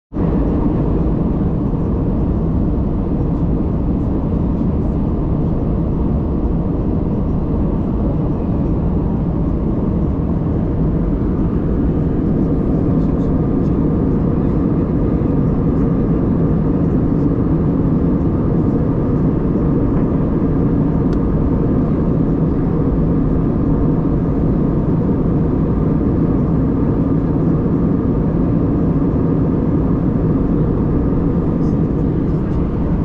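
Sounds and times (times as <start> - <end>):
jet engines low roar: 0.1 - 33.0.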